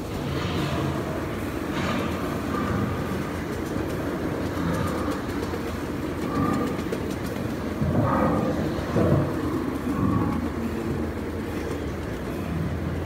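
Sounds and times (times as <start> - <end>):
miniature train wheels rumbling: 0.0 - 13.0.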